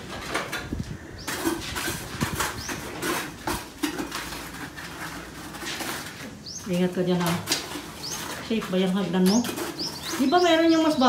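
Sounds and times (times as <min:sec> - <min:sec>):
trowel scraping a bucket: 0:00.0 - 0:11.0.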